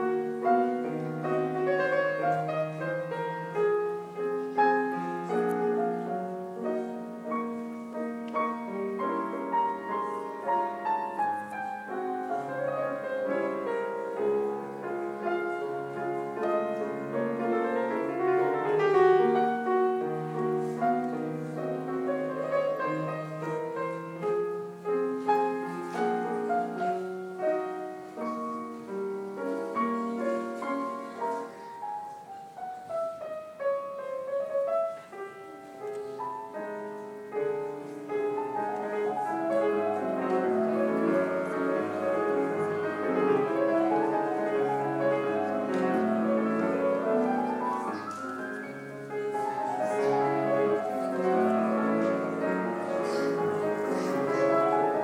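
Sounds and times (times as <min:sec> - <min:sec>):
solo piano: 0:00.0 - 0:55.0.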